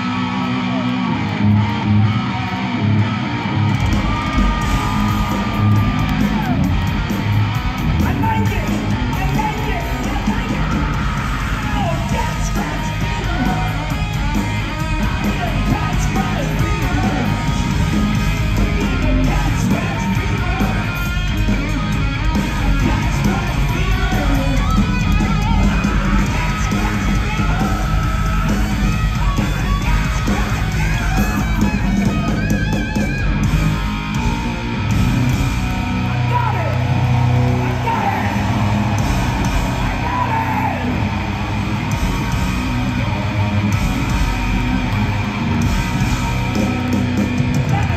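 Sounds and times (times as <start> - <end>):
live hard rock band: 0.0 - 47.9
overdriven electric guitar: 0.0 - 47.9.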